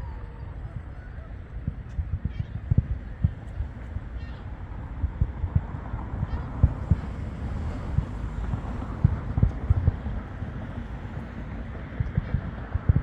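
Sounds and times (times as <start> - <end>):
background rumble: 0.4 - 13.0.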